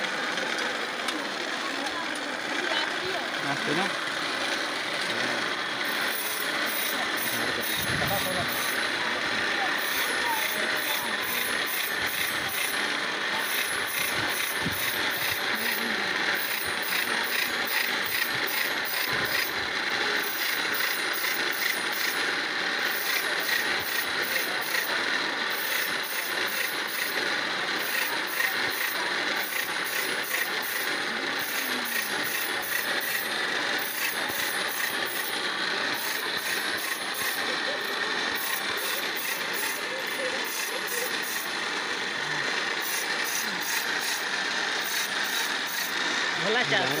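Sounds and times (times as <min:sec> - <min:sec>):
blade rasping on grinding wheel: 0:00.0 - 0:47.0.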